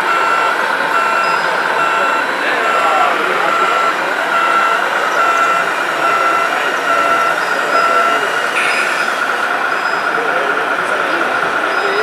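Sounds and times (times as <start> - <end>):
background hubbub: 0.0 - 12.0
reversing beeper: 0.0 - 12.0.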